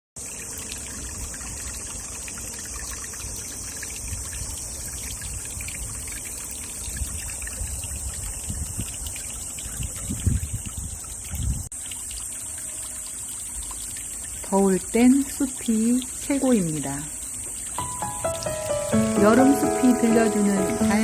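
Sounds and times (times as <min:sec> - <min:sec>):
stream trickling and babbling: 0:00.2 - 0:21.0.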